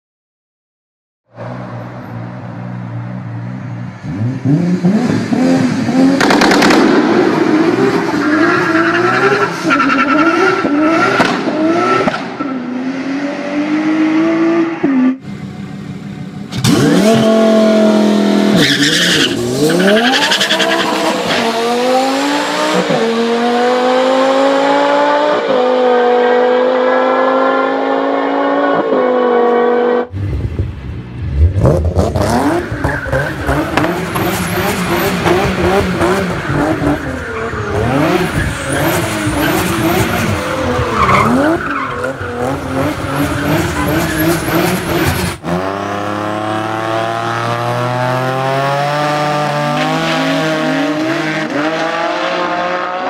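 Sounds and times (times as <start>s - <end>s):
car engine revving: 4.0s - 53.0s.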